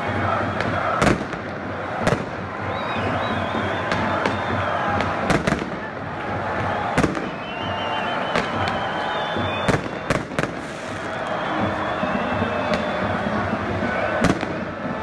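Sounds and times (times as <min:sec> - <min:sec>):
crowd din: 0:00.0 - 0:15.0
fireworks bangs: 0:00.1 - 0:15.0.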